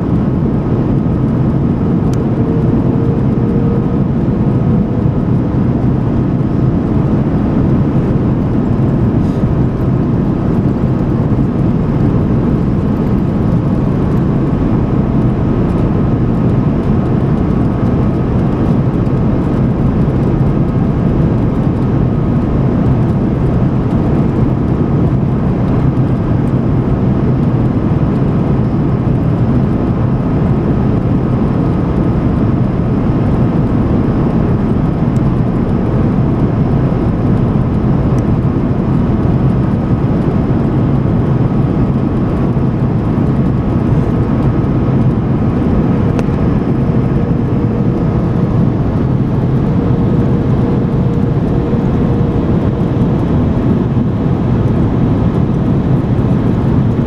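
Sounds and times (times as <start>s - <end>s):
faint steady whine: 0.0s - 57.0s
jet engine rumble: 0.0s - 57.0s
rushing airflow: 0.0s - 57.0s.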